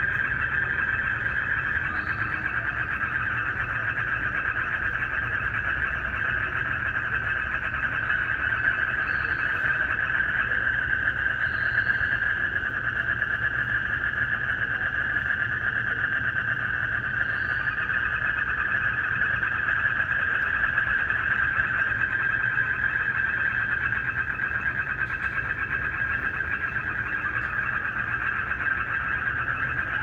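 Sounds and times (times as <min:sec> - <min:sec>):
frogs and crickets calling: 0:00.0 - 0:30.0.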